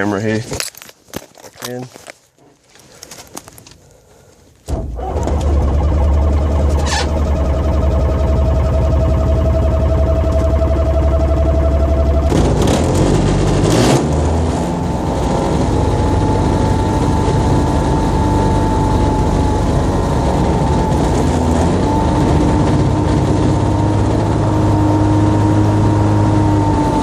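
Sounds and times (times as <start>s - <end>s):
aircraft engine starting and running: 4.7s - 27.0s.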